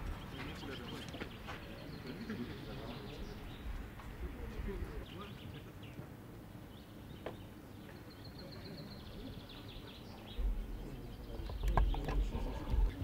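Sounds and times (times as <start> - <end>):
birds chirping: 0.0 - 13.0
faint distant voices: 0.0 - 13.0.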